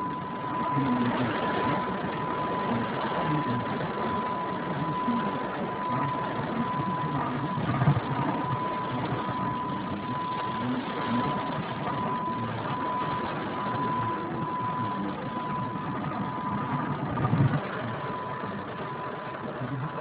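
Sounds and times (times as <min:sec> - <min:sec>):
car engine and road rumble: 0:00.0 - 0:20.0
high whine: 0:00.0 - 0:20.0.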